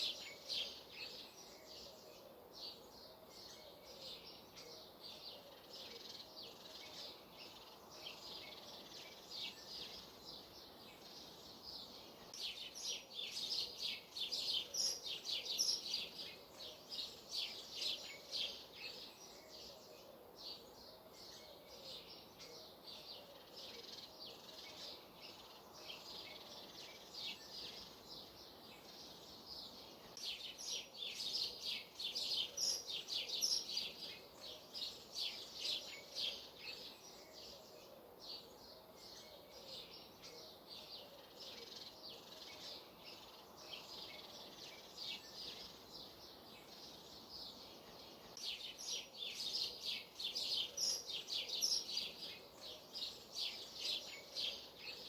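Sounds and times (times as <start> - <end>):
faint outdoor hiss: 0.0 - 55.0
small birds chirping: 0.0 - 55.0.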